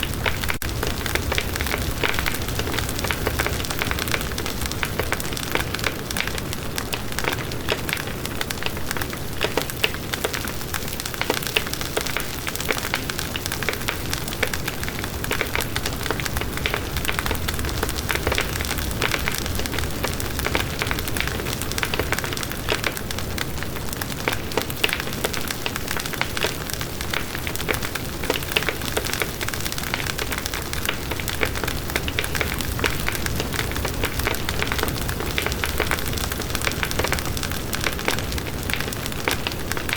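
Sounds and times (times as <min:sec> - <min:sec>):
wood crackling and snapping: 0:00.0 - 0:39.9.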